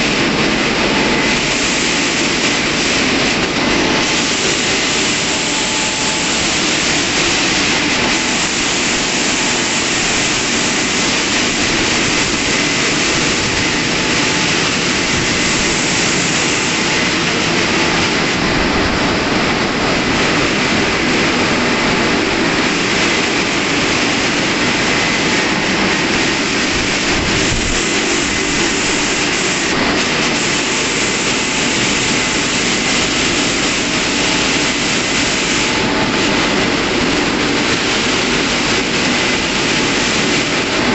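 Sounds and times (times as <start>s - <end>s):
car wash dryer blowers rushing air: 0.0s - 40.9s.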